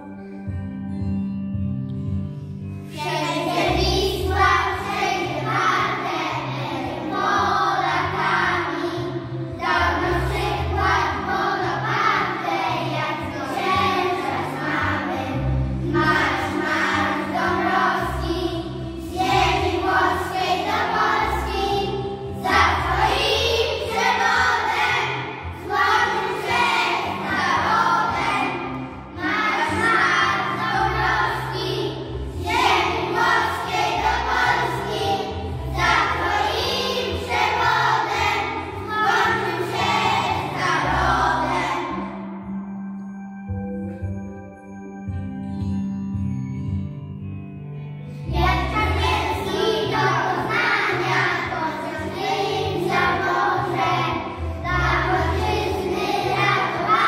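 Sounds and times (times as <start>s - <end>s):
backing music with bass: 0.0s - 57.0s
children singing together: 2.9s - 42.3s, 48.3s - 57.0s.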